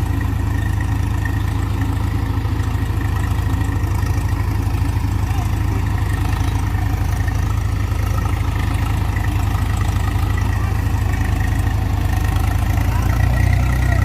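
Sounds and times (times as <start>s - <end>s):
diesel engine running steadily: 0.0s - 14.0s.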